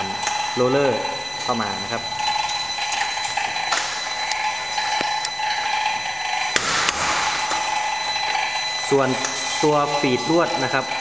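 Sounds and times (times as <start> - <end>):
machine motor whine: 0.0 - 11.0.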